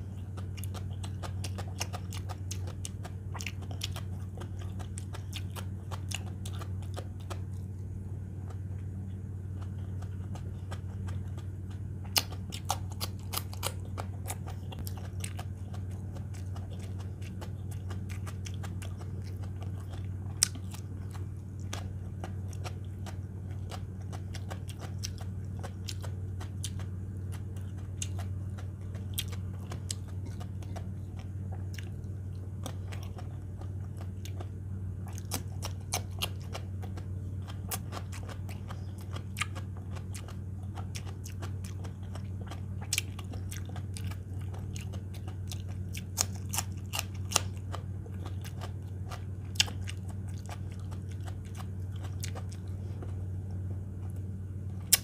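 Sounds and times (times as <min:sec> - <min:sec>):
crunchy chewing of vegetables: 0:00.0 - 0:55.0
steady low hum: 0:00.0 - 0:55.0.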